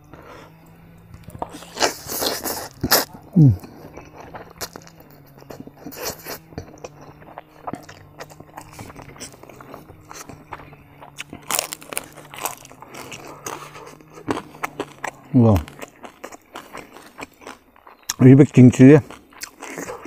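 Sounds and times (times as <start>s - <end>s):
crispy bite: 1.2s - 18.3s, 19.0s - 20.0s
noodles slurped and chewed: 1.2s - 20.0s.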